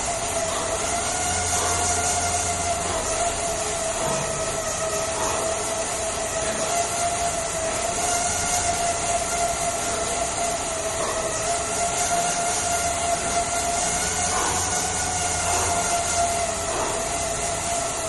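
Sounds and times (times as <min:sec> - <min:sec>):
exercise bike whirring: 0:00.0 - 0:18.0.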